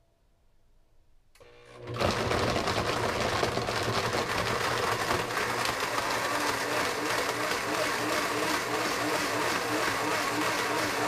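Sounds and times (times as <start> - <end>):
blender motor: 1.4 - 11.0.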